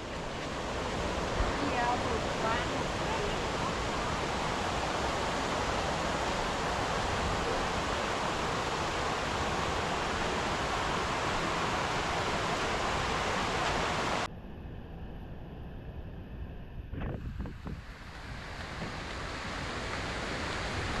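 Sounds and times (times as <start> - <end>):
waterfall rushing: 0.0 - 14.3, 17.9 - 21.0.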